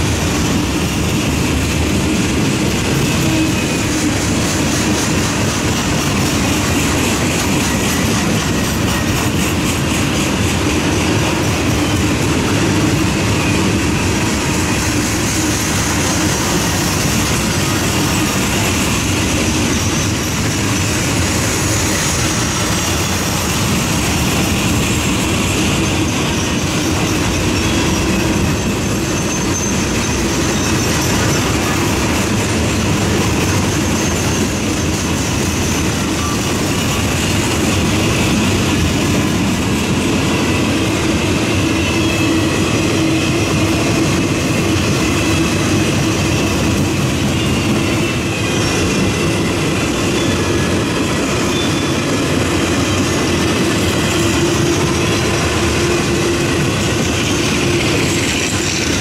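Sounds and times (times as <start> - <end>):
train wheels rushing on track: 0.0 - 59.0.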